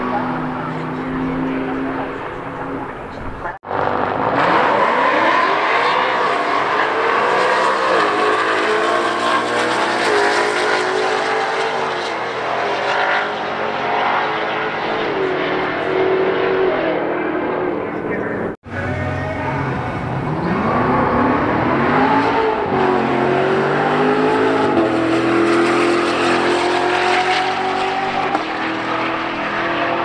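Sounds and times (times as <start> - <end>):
car engine at full throttle: 0.0 - 30.0.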